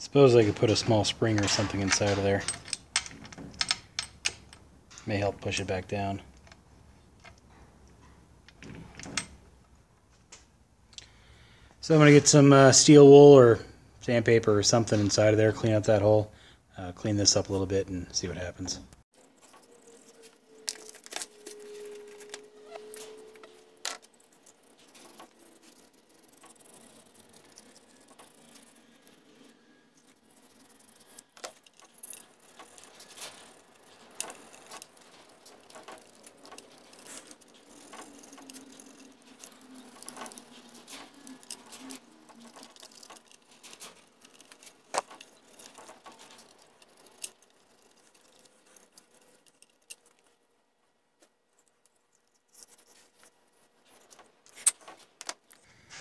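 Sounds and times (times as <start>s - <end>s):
small metal parts clicking and rattling: 0.2s - 9.7s, 19.2s - 50.6s, 51.2s - 55.7s.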